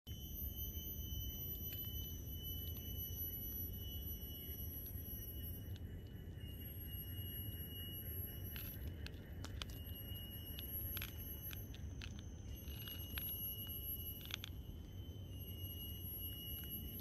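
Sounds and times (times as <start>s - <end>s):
high-pitched whine: 0.1s - 17.0s.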